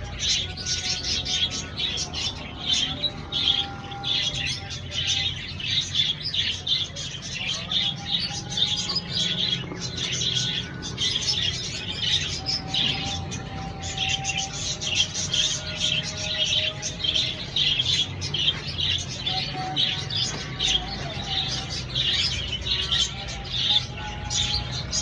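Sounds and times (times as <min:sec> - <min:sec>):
birds chattering: 0:00.0 - 0:25.0.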